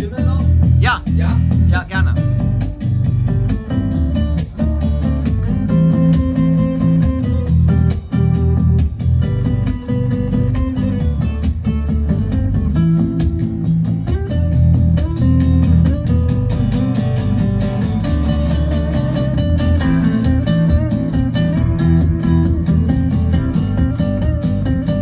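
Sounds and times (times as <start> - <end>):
guitar music over loudspeakers: 0.0 - 25.0.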